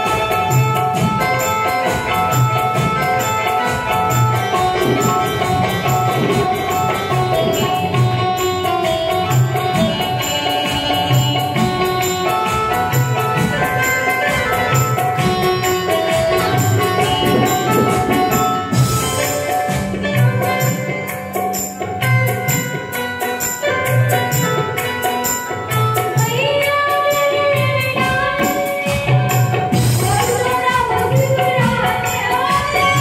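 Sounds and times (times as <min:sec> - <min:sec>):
music with percussion beat: 0:00.0 - 0:33.0.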